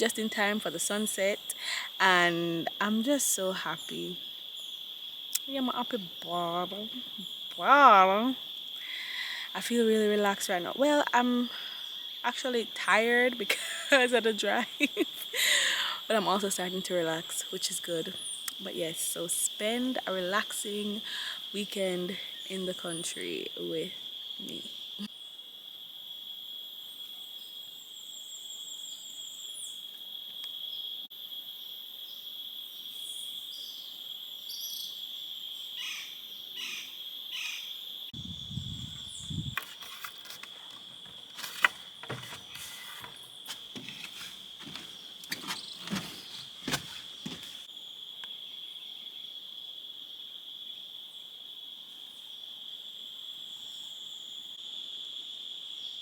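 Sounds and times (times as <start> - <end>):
crickets and insects chorus: 0.0 - 56.0.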